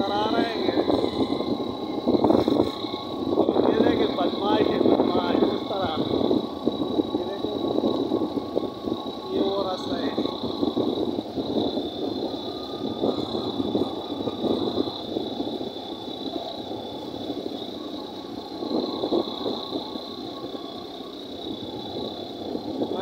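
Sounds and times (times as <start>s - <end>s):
steady high-pitched tone: 0.0s - 23.0s
vehicle engine and road rumble: 0.0s - 23.0s.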